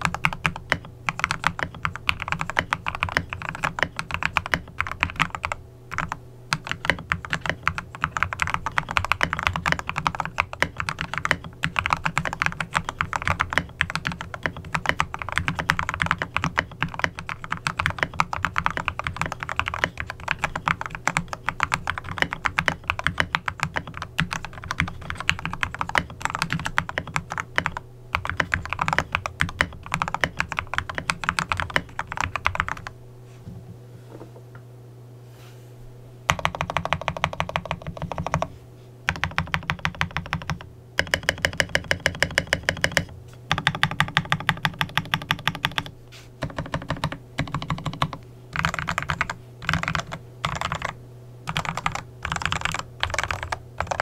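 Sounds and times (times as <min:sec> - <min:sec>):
fast typing on mechanical keyboard: 0:00.0 - 0:32.9, 0:36.3 - 0:38.5, 0:39.1 - 0:54.0.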